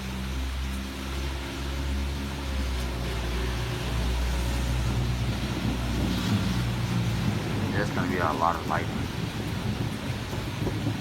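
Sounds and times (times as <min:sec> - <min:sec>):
steady rain hiss: 0:00.0 - 0:11.0
low rumble: 0:01.1 - 0:11.0.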